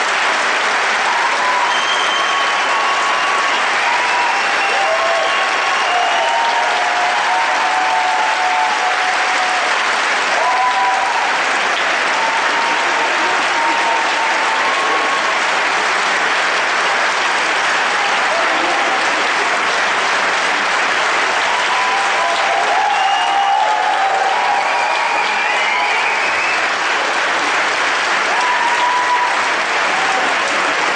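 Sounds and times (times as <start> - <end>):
audience applause: 0.0 - 30.9
audience calls: 0.0 - 30.9.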